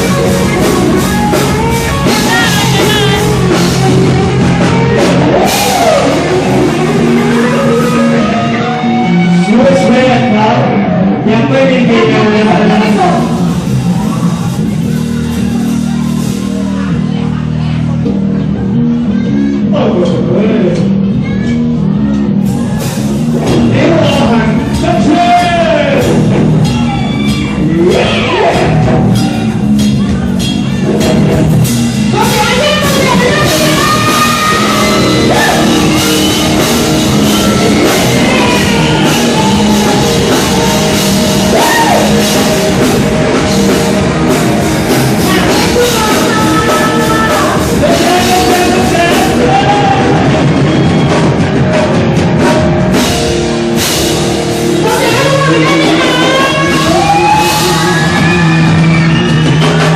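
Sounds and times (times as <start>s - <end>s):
drum kit: 0.0s - 10.7s, 11.8s - 59.9s
electric guitars: 0.0s - 59.9s.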